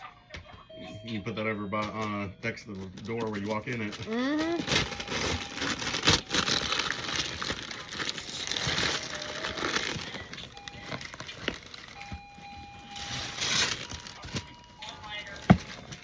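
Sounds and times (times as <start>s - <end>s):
packaging rustling and crinkling: 1.8s - 16.0s.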